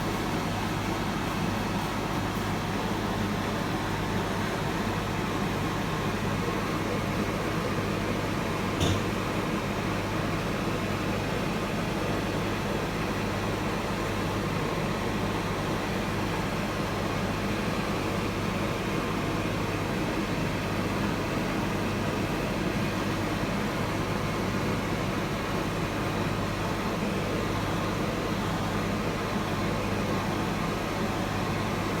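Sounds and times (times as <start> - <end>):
fan humming: 0.0 - 32.0.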